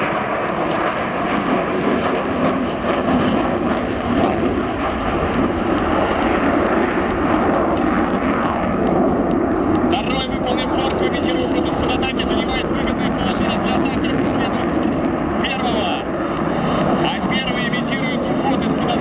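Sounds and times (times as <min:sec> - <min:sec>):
fighter jet roaring overhead: 0:00.0 - 0:19.0.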